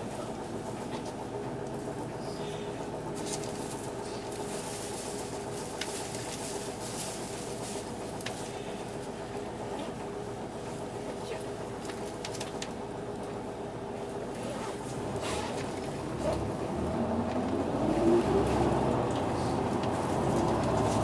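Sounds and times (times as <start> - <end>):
bus diesel engine humming: 0.0 - 21.0.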